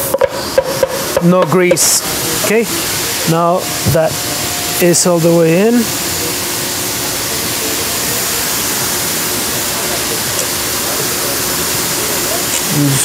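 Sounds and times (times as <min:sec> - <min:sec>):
workshop background hiss: 0:00.0 - 0:13.0.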